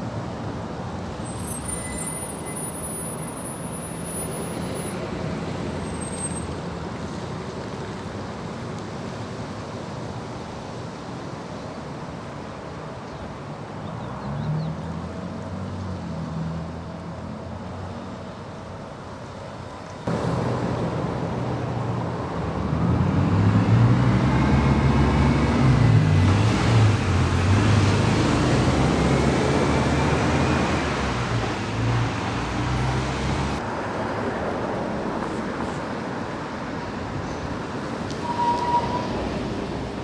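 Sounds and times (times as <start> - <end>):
road traffic engines: 0.0 - 40.0.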